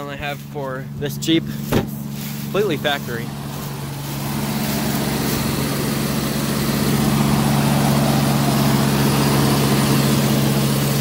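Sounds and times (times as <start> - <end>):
car engine fast idling: 0.0 - 11.0.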